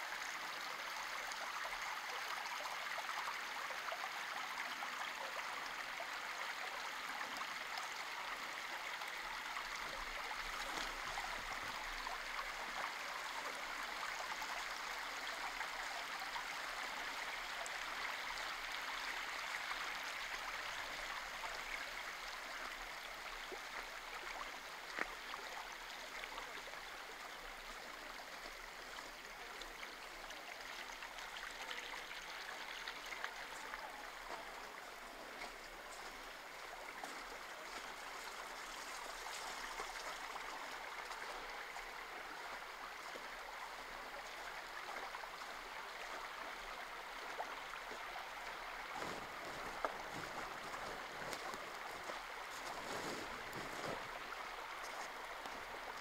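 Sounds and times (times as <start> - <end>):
running water rushing: 0.0 - 56.0.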